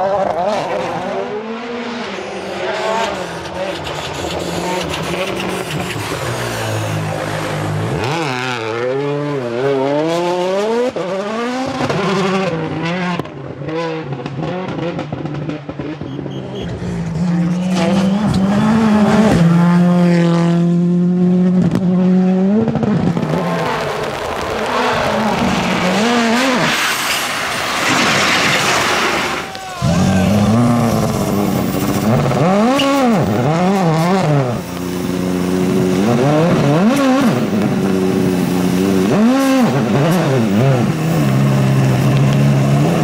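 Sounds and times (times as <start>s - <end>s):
rally car engines revving hard: 0.0s - 43.0s.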